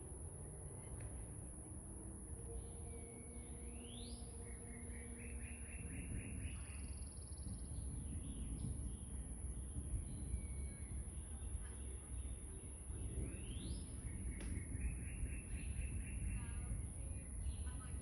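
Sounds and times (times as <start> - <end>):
low steady background rumble: 0.0 - 18.0
songbird singing: 0.0 - 18.0.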